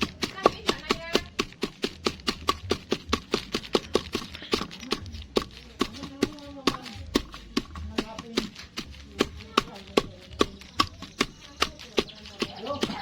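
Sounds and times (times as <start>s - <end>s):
rapid even knocking: 0.0s - 13.0s.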